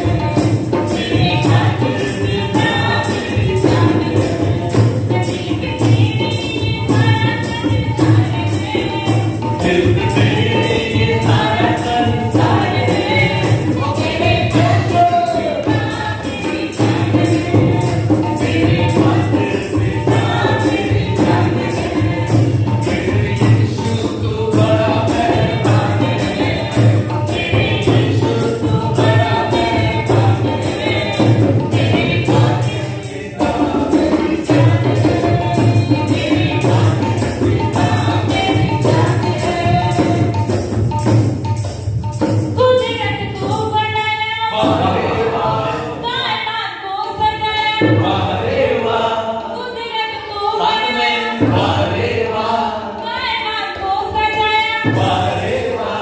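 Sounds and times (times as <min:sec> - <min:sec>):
rhythmic hand-clapping: 0:00.0 - 0:43.7, 0:47.0 - 0:56.0
group singing in chorus: 0:00.0 - 0:56.0
hand drum beat: 0:00.0 - 0:56.0.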